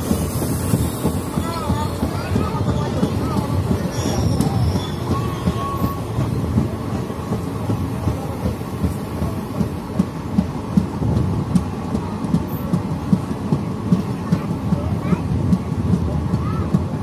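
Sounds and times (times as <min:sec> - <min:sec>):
clickety-clack knocks: 0:00.0 - 0:17.0
train wheels rumbling on rails: 0:00.0 - 0:17.0.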